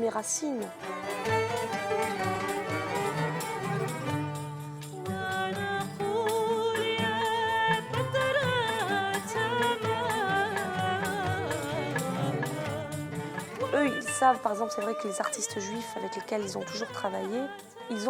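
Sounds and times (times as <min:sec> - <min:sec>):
bowed strings: 0:00.0 - 0:17.4
person singing ornamented melody: 0:00.0 - 0:18.0.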